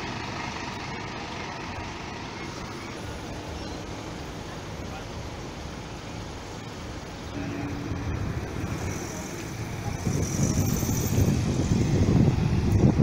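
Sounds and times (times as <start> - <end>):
motor vehicles rumbling: 0.0 - 13.0.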